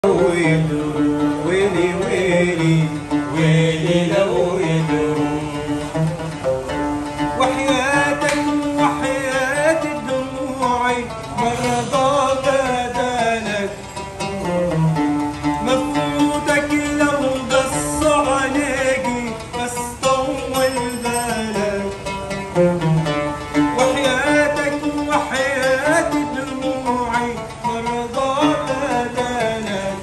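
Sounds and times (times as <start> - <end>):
man singing: 0.0 - 6.4, 7.2 - 22.8, 23.7 - 30.0
oud plucked strings: 0.0 - 30.0.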